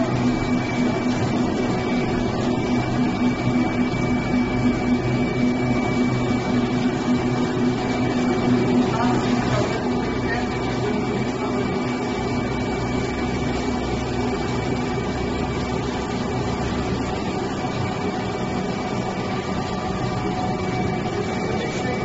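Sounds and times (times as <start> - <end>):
oil press motor hum: 0.0 - 22.0.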